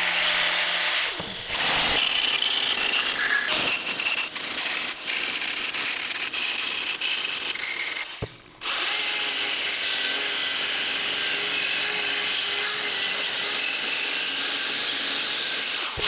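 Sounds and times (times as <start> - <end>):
angle grinder sanding wood: 0.0 - 16.0.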